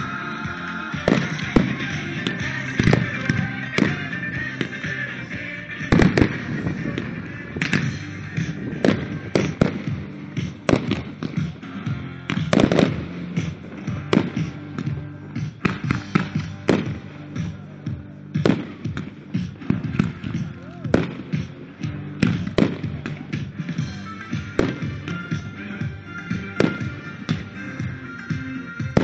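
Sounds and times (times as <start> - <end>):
fireworks bursting: 0.0 - 17.7, 18.3 - 29.0
disco music over loudspeakers: 0.0 - 29.0.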